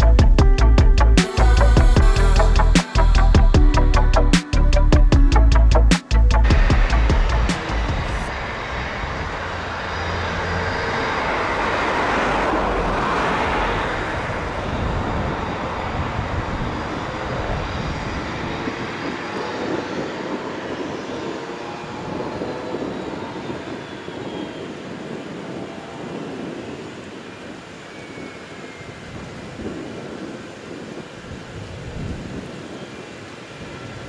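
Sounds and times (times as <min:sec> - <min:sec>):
aircraft engine rush: 0:00.0 - 0:34.0.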